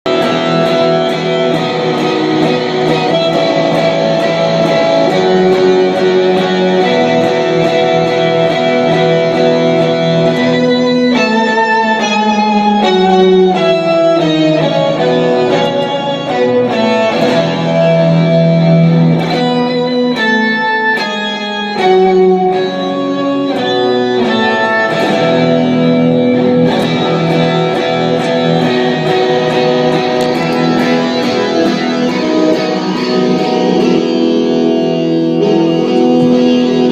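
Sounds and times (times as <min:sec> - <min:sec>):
guitar chords and picked notes: 0:00.0 - 0:36.9.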